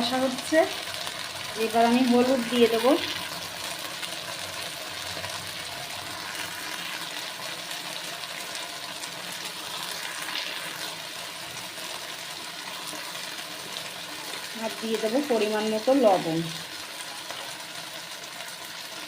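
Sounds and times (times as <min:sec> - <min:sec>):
paste and onions sizzling in oil: 0:00.0 - 0:19.0.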